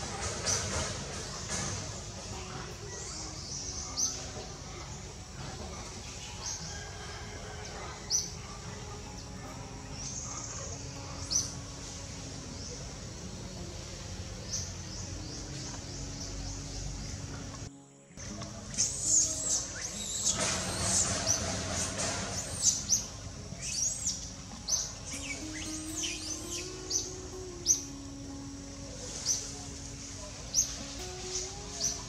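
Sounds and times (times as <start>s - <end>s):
steady background noise: 0.0s - 32.0s.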